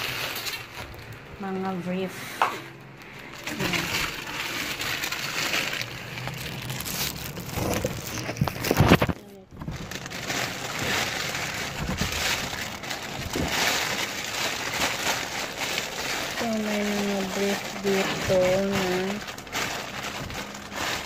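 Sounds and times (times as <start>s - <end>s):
clothes and cardboard rustling: 0.0s - 21.0s.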